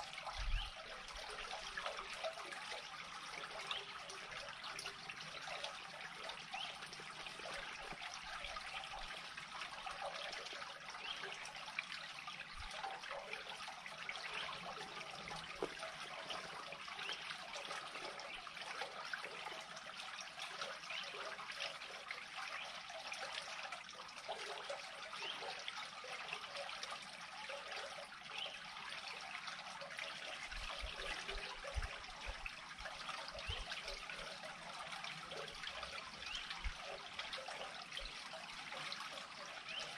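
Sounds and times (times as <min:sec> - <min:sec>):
water trickling into a pipe: 0:00.0 - 0:39.9.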